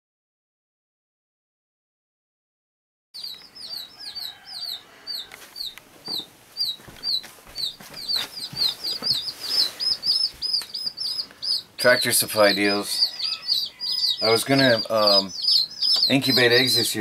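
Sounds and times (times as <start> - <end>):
chicks peeping: 3.2 - 17.0.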